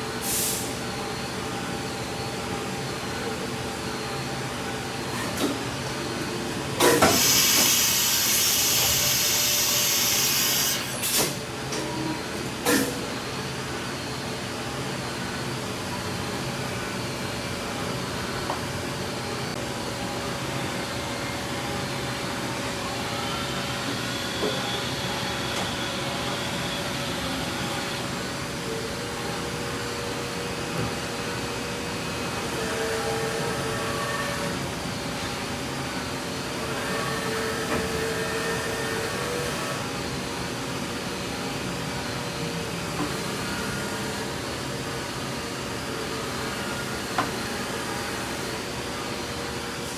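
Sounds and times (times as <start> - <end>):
machine mechanical hum: 0.0 - 49.9.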